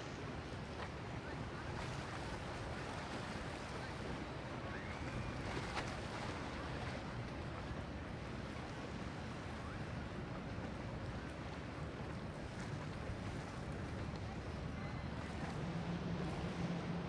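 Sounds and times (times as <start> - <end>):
motorboat engines rumbling: 0.0 - 17.0
waves washing: 0.0 - 17.0.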